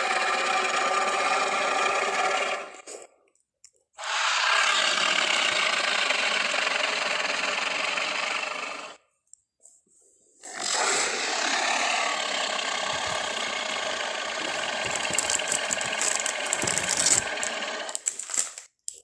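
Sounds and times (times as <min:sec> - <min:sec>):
harsh rattling monster roar: 0:00.0 - 0:02.8, 0:04.0 - 0:09.0, 0:10.4 - 0:18.1.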